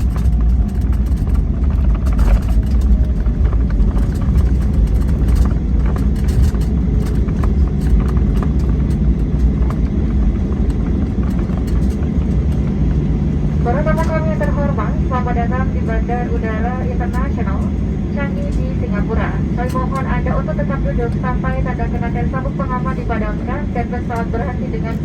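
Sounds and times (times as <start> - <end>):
airplane cabin low rumble: 0.0 - 25.0
light clicks and rattles: 0.0 - 25.0.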